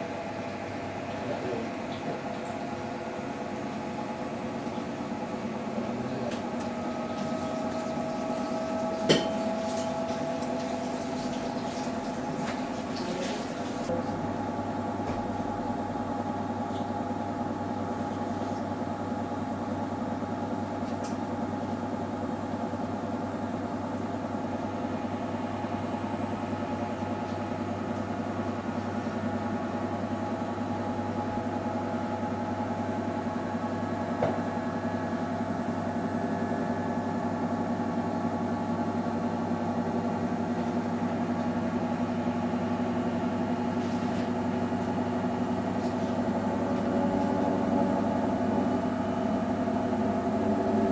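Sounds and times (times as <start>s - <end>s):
washing machine motor hum: 0.0s - 50.9s.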